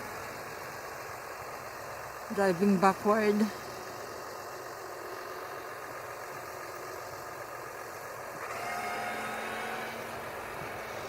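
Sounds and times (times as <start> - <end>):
heavy vehicle engine running: 0.0 - 11.0
steady hum: 0.0 - 11.0.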